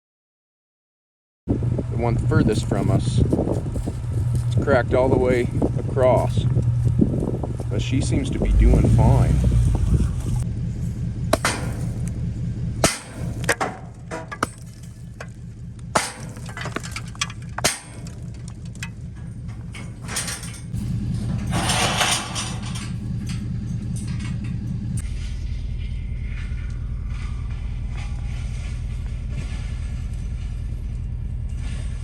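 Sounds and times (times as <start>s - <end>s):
engine running: 1.5s - 32.0s.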